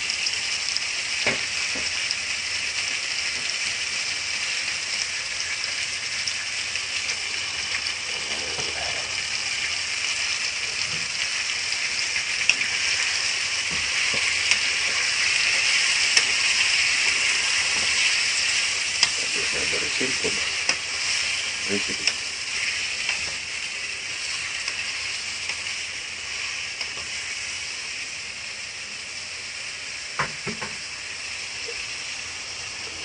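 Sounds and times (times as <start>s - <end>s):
liver sizzling in a pot: 0.0s - 33.0s.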